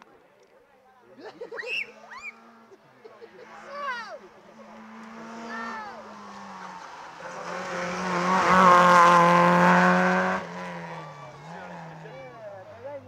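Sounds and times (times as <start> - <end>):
rally car engine at high revs: 2.2 - 13.0.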